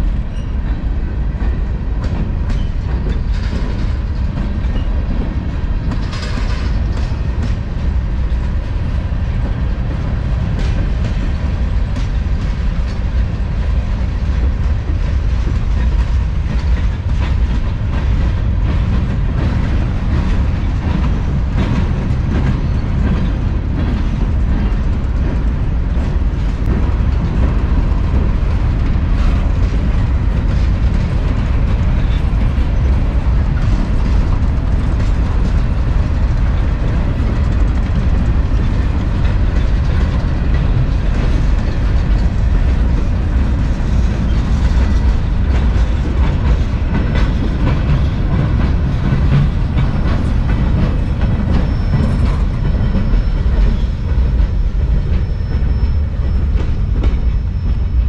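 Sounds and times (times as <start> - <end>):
freight train cars rolling: 0.0 - 58.0
train wheel clicks: 0.1 - 58.0.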